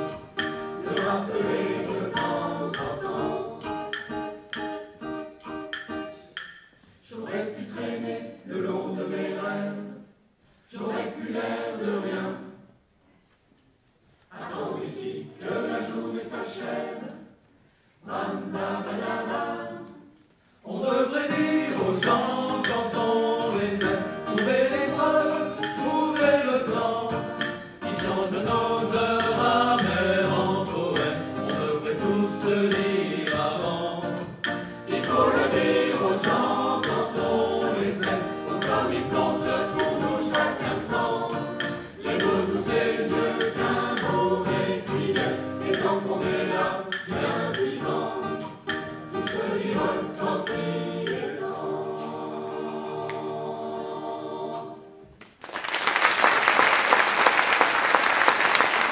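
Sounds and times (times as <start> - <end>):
mixed choir singing: 0.0 - 3.8, 7.0 - 12.8, 14.3 - 55.1.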